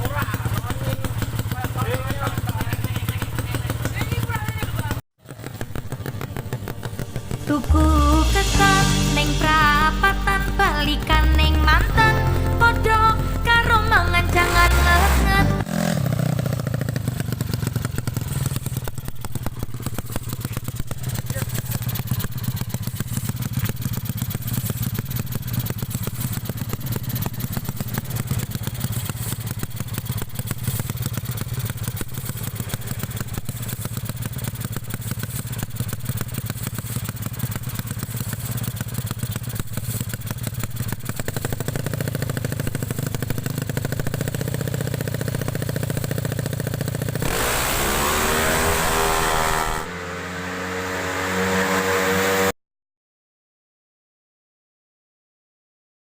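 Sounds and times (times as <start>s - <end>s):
scooter idling: 0.0s - 50.2s.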